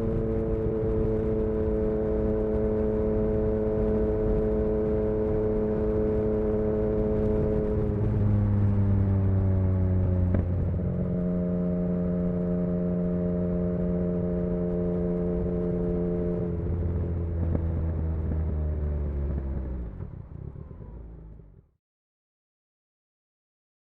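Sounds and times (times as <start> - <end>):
motorcycle engine running: 0.0 - 21.6.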